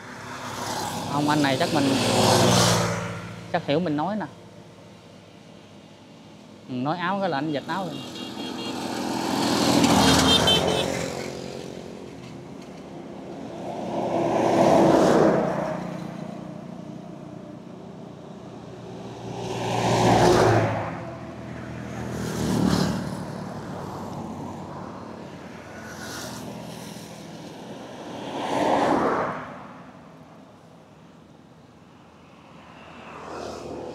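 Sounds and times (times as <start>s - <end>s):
vehicles passing close by: 0.0s - 33.9s.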